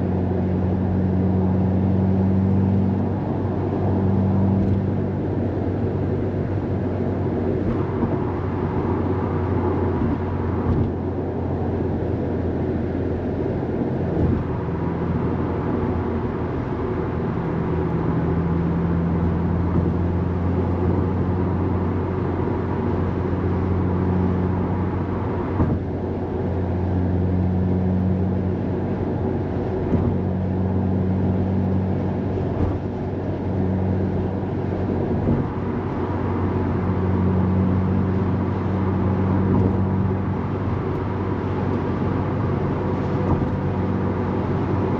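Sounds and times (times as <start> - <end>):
car engine cruising: 0.0 - 44.9
tyre and road noise: 0.0 - 44.9.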